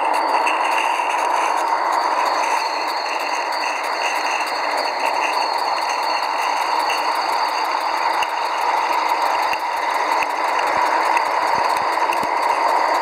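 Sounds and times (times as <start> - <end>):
steam locomotive hissing and clattering: 0.0 - 13.0.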